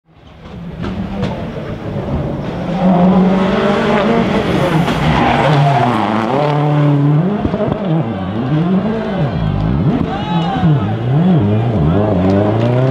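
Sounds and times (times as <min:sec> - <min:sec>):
rally car engine at full throttle: 0:00.1 - 0:12.9.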